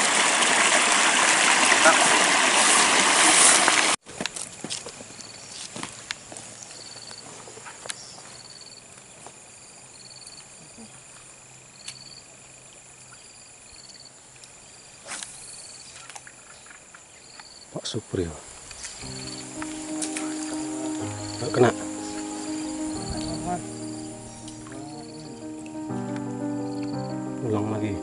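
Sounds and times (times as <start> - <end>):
insects chirping and buzzing: 4.4 - 27.2.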